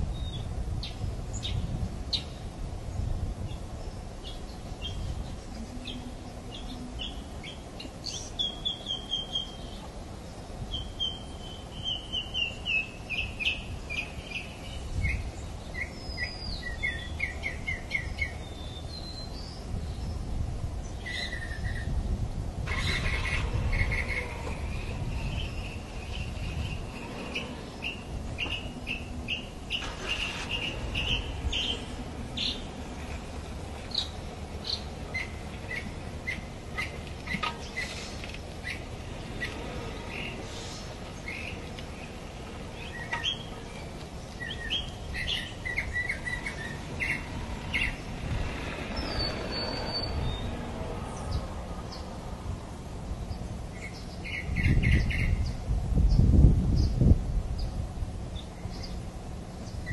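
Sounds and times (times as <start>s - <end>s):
low background rumble: 0.0s - 59.9s
birds chirping: 0.1s - 52.4s, 53.2s - 57.0s, 57.6s - 59.9s.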